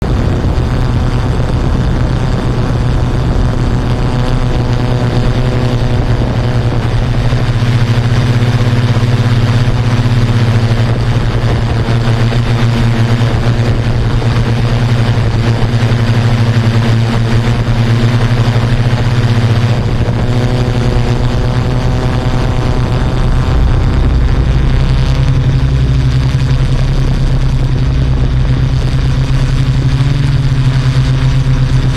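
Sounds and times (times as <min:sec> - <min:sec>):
drone propellers humming: 0:00.0 - 0:31.9.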